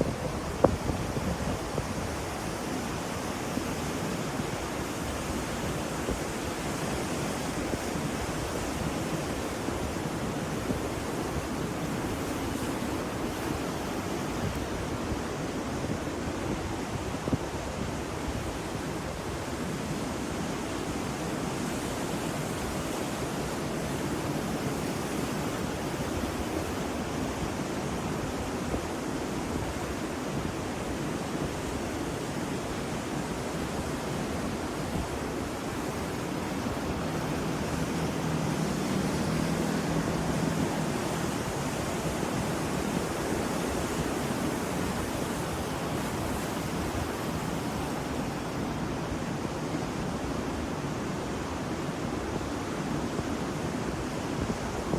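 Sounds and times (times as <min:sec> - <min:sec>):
ocean waves breaking on shore: 0:00.0 - 0:54.9.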